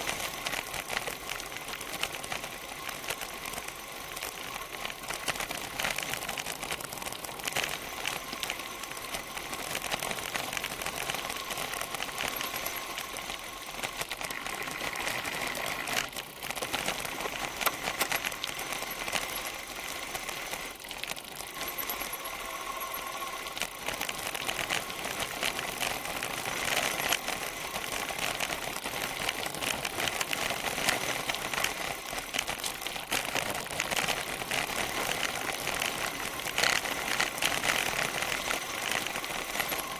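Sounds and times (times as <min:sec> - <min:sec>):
bicycle tyres crackling over gravel: 0:00.0 - 0:39.9
bike clicking and rattling: 0:00.0 - 0:39.9.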